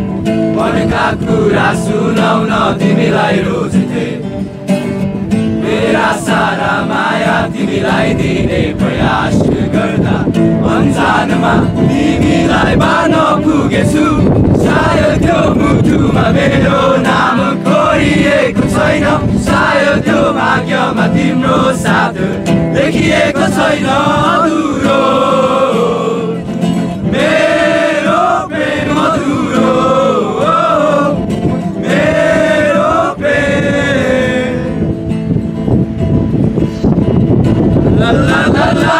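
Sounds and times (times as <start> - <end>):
acoustic guitar: 0.0 - 38.9
group singing: 0.3 - 4.5, 5.4 - 35.0, 37.8 - 38.9.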